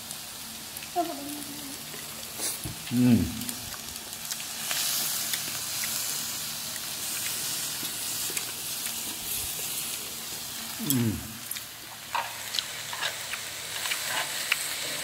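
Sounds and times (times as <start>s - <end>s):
meat sizzling on grill: 0.0s - 15.0s.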